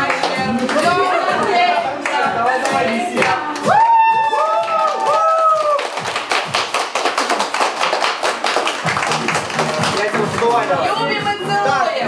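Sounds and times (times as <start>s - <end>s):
group clapping hands: 0.0s - 11.0s.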